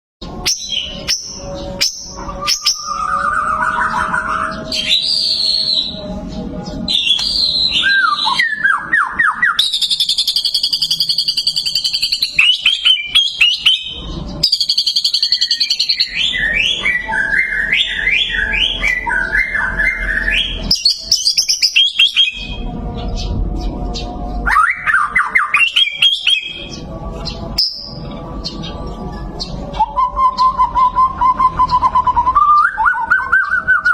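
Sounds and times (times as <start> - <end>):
bird singing whistled phrases and trills: 0.4 - 33.9.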